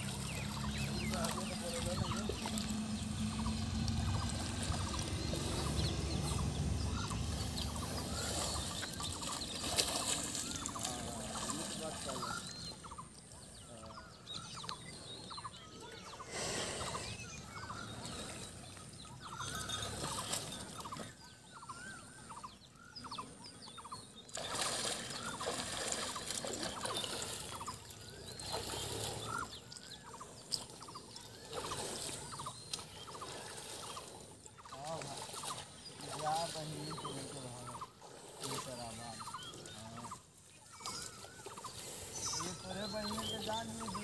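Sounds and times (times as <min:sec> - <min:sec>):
water splashing and sloshing: 0:00.0 - 0:16.2, 0:16.8 - 0:44.0.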